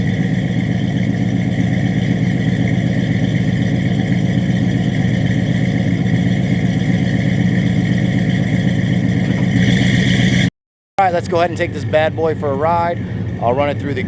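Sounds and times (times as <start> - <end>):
engine idling with deep rumble: 0.0 - 14.0.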